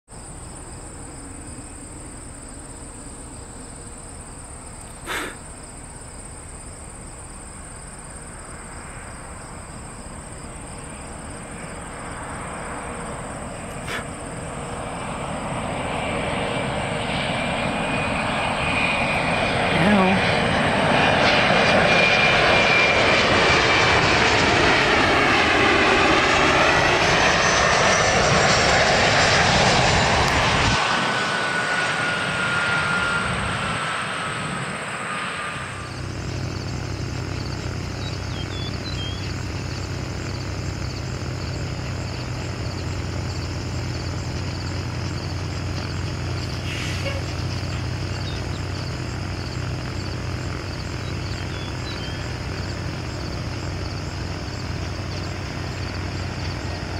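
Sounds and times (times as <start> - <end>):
distant airliner drone: 0.1 - 56.9
jet roaring overhead: 0.2 - 56.9.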